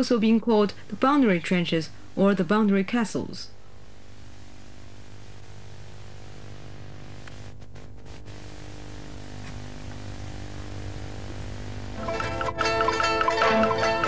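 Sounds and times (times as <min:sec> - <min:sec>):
videotape hiss and hum: 0:00.0 - 0:14.0.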